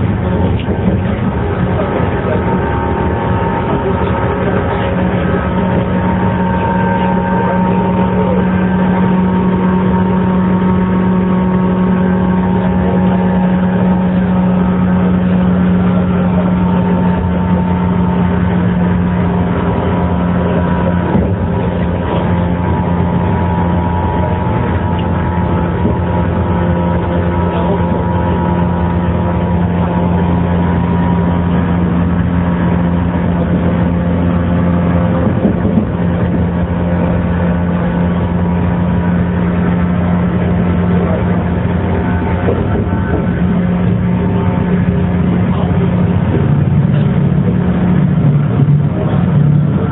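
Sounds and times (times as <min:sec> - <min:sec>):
electric train motor hum: 0:00.0 - 0:49.9
wheels on rails: 0:00.0 - 0:49.9.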